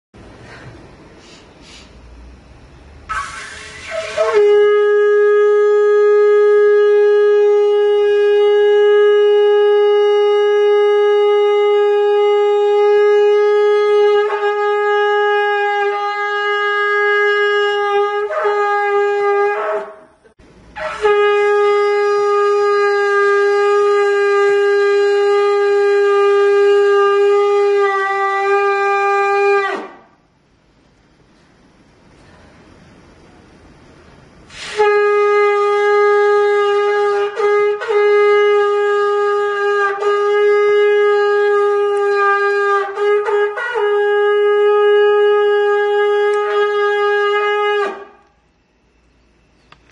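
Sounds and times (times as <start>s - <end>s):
shofar horn held notes: 3.1s - 30.1s, 34.5s - 48.4s.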